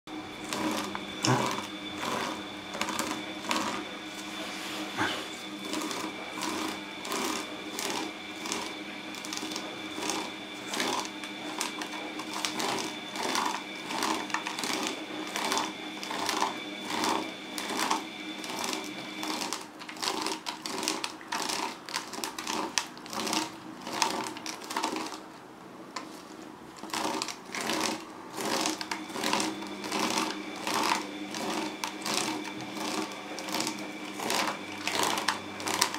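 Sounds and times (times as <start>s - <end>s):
fingernails scratching rope: 0.4s - 25.2s, 26.0s - 35.9s.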